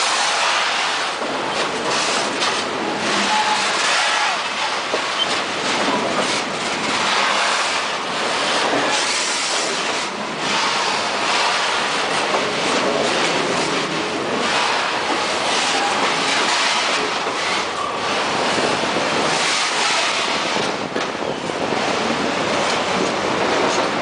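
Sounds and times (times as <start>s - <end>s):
freight wagons rattling: 0.0s - 24.0s
train wheels on rails: 0.0s - 24.0s.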